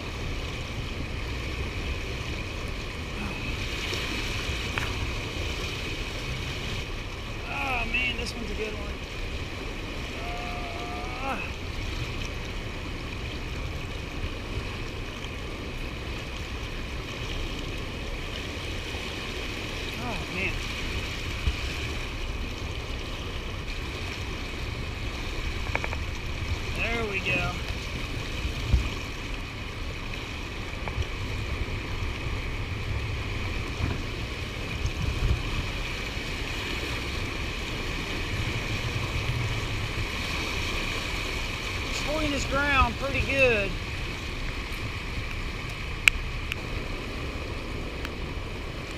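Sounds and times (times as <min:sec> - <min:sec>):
water rushing from spillway: 0:00.0 - 0:48.9
wind buffeting microphone: 0:00.0 - 0:48.9.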